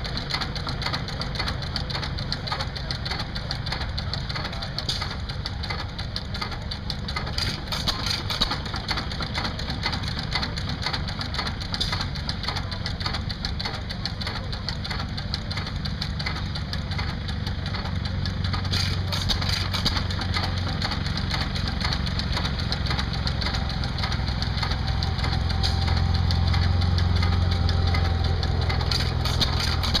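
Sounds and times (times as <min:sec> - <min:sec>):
engine beating steadily: 0:00.0 - 0:30.0
small mechanical clicks: 0:00.0 - 0:30.0.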